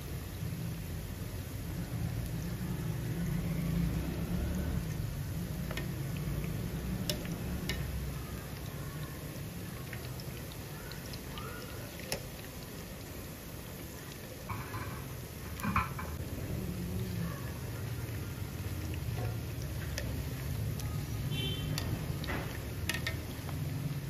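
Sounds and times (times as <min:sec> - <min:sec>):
oil sizzling: 0:00.0 - 0:24.0.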